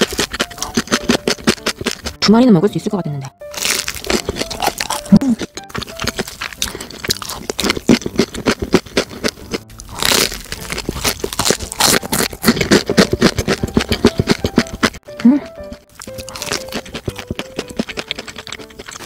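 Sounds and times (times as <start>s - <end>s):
crunching fried chicken: 0.0s - 2.2s, 3.5s - 19.0s.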